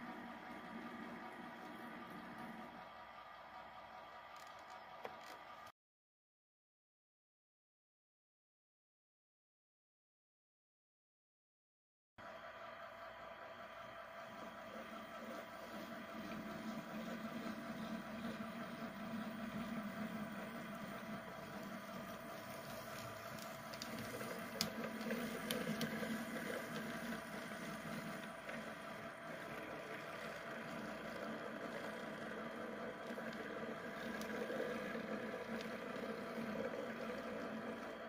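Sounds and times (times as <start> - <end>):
model locomotive hum: 0.0 - 5.7, 12.2 - 38.0.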